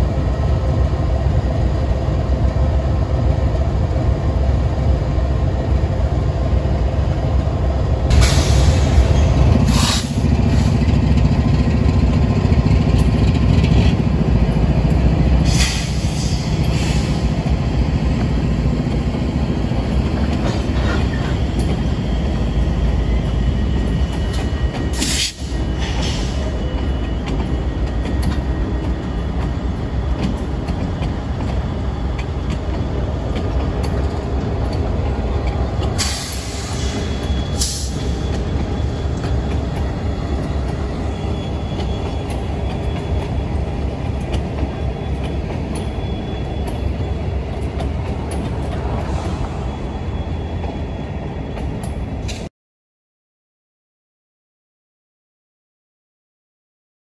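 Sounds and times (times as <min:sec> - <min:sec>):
diesel locomotives rumbling: 0:00.0 - 0:52.5.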